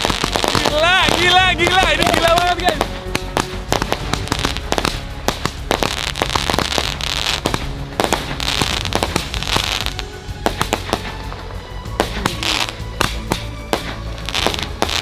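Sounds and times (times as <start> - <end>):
crackling aerial bursts: 0.0 - 15.0
fireworks launch pops: 0.0 - 15.0
hissing crackle: 0.0 - 15.0.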